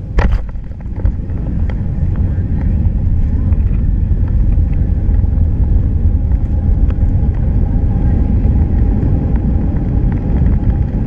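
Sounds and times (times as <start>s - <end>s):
aircraft rolling low rumble: 0.0s - 11.0s
faint steady whine: 0.0s - 11.0s.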